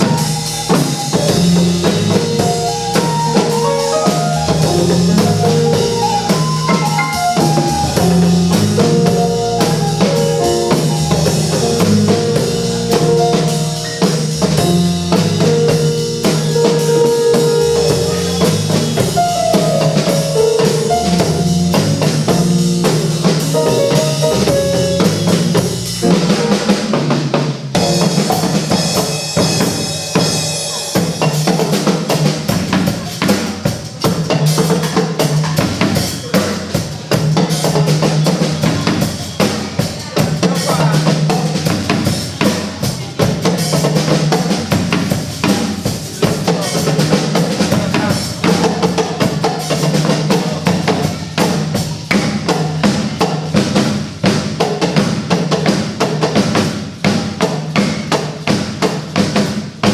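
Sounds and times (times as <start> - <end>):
fast dense drumming: 0.0 - 59.9.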